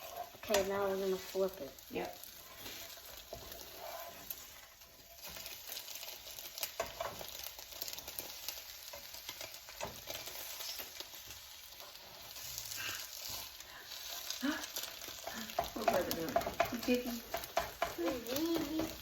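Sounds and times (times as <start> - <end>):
food sizzling in frying pan: 0.0 - 19.0
spatula scraping a pan: 0.0 - 19.0.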